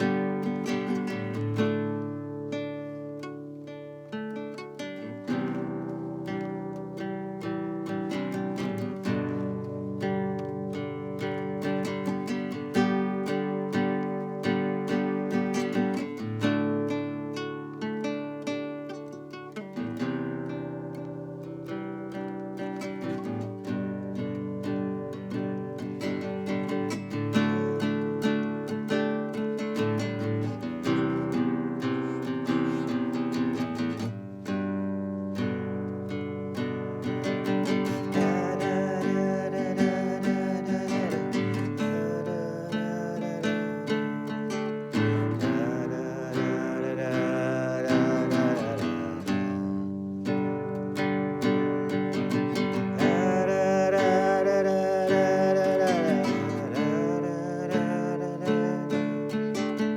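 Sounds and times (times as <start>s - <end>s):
classical guitar fingerstyle: 0.0s - 59.9s.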